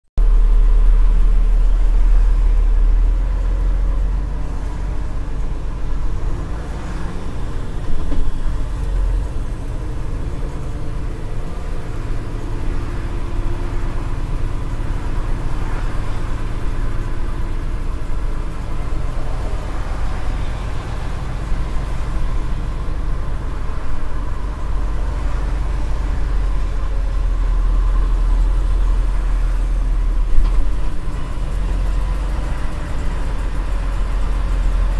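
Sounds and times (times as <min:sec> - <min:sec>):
road noise: 0:00.2 - 0:34.9
truck engine rumble: 0:00.2 - 0:34.9.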